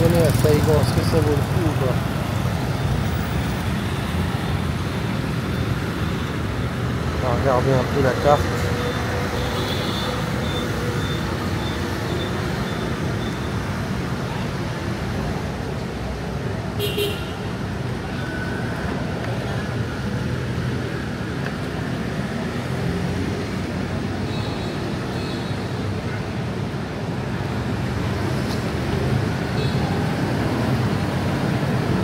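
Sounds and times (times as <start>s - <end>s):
dense street traffic rumble: 0.0s - 32.0s.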